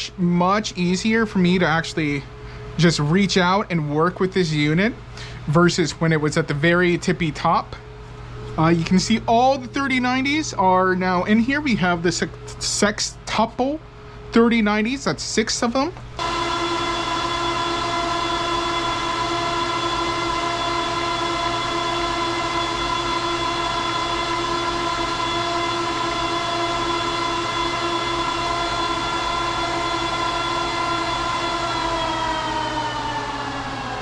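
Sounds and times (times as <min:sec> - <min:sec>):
server fans whining: 0:00.0 - 0:34.0.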